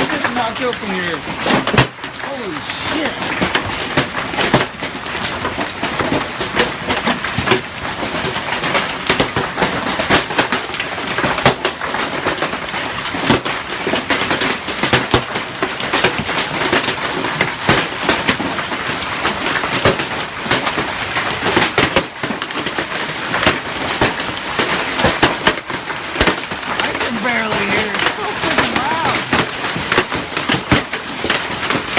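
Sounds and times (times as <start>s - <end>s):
hailstones clattering: 0.0s - 31.9s.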